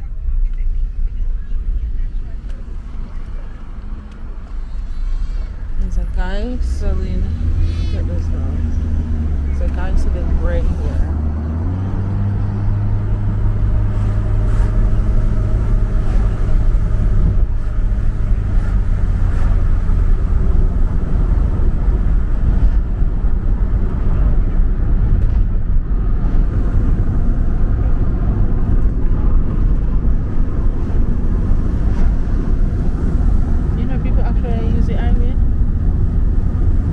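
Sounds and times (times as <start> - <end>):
car engine and tyres rumble: 0.0 - 36.9.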